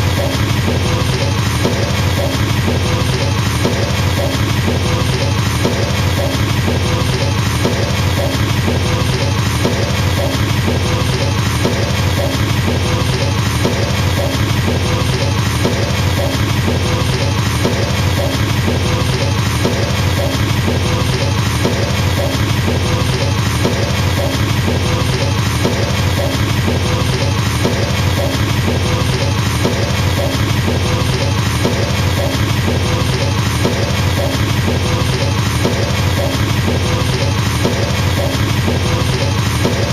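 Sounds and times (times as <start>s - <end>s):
drum hits: 0.0s - 39.9s
fast kick drum strokes: 0.0s - 39.9s.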